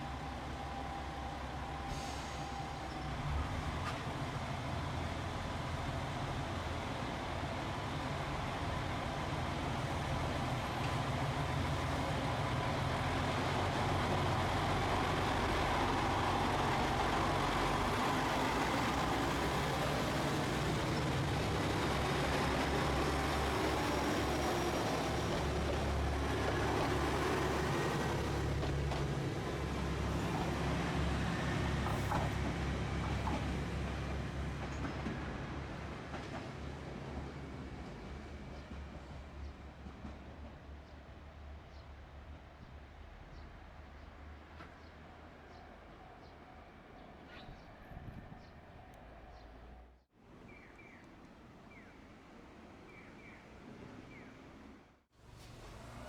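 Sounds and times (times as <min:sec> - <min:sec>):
diesel train passing: 0:00.0 - 0:56.0.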